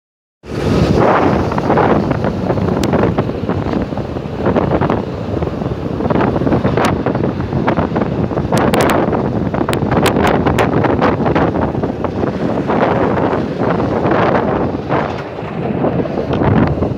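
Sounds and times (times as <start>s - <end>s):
wind on microphone: 0.4s - 16.9s
tram wheels rumbling on rails: 0.6s - 16.9s.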